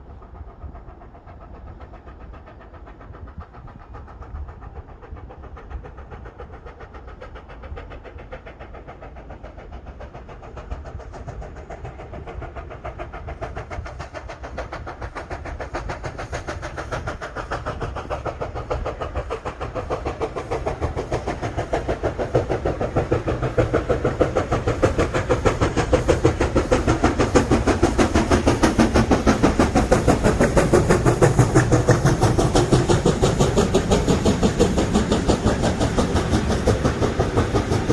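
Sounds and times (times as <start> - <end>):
steam locomotive chuffing: 0.0 - 37.9.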